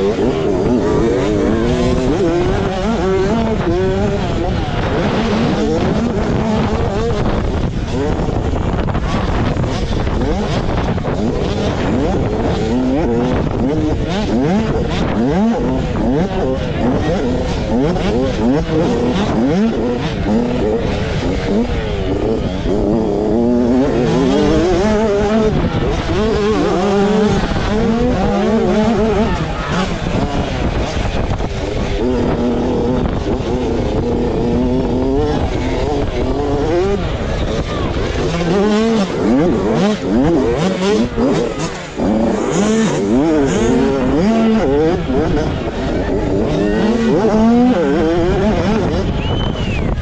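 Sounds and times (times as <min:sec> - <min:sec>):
motocross bike engine revving: 0:00.0 - 0:50.0.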